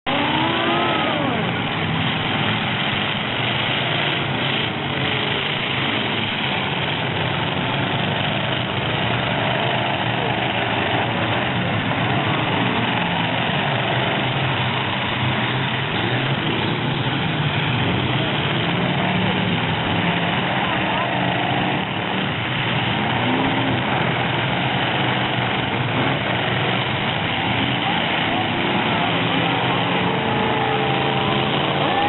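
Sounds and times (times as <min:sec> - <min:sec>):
truck engines idling and revving: 0:00.0 - 0:32.0.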